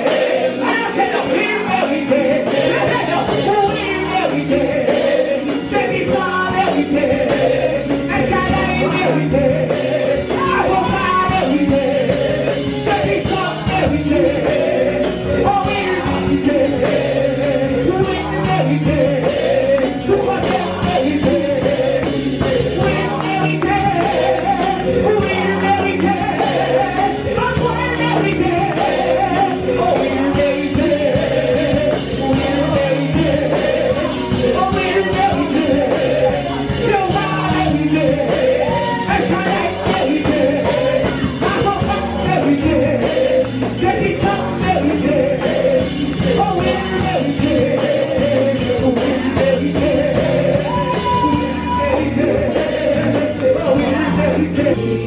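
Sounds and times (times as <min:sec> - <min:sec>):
worship singing with live band: 0:00.0 - 0:55.0.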